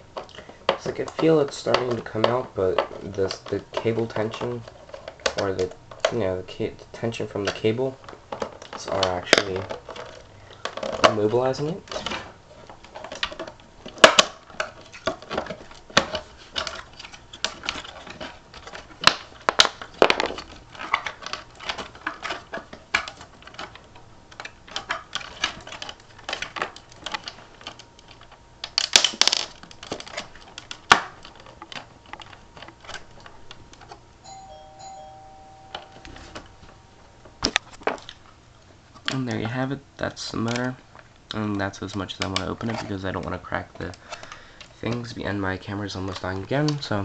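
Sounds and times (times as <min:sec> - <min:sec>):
plastic clicks and rattles: 0:00.0 - 0:06.3, 0:07.0 - 0:34.0, 0:40.3 - 0:45.3.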